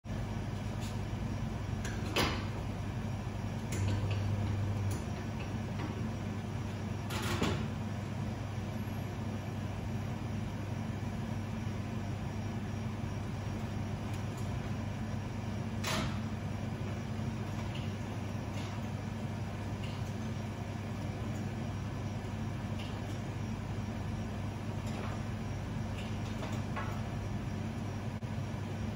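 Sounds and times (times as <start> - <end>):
low electrical hum: 0.1 - 28.9.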